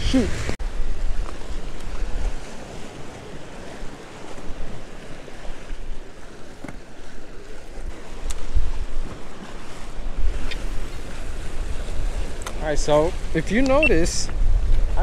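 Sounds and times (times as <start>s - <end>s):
surf washing against rocks: 0.0s - 15.0s
wind rumbling on microphone: 0.0s - 15.0s.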